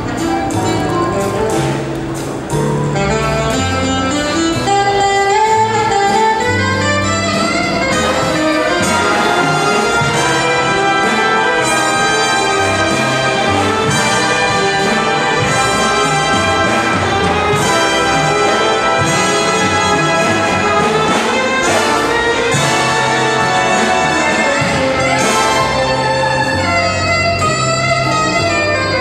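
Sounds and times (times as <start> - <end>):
big band jazz: 0.0 - 29.0
brass section chords: 0.0 - 29.0
saxophone solo: 2.9 - 29.0.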